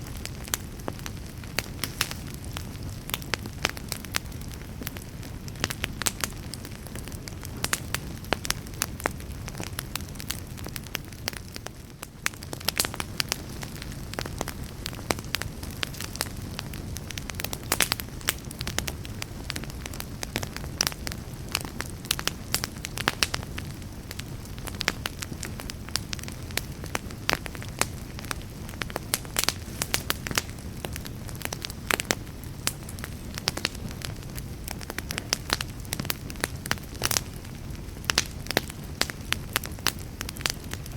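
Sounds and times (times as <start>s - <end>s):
fire crackles and pops: 0.0s - 40.9s
fire rumbling: 0.0s - 40.9s.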